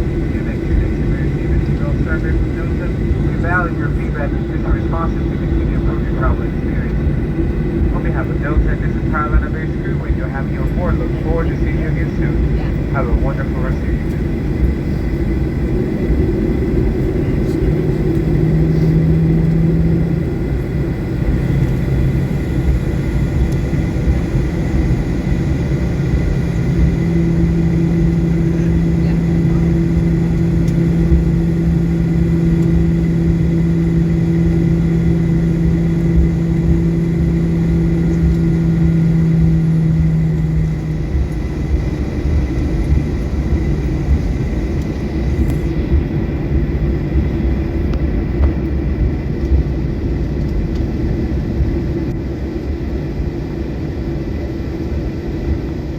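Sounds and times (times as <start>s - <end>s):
low cabin rumble: 0.0s - 55.4s
jet engine hum: 0.0s - 55.9s.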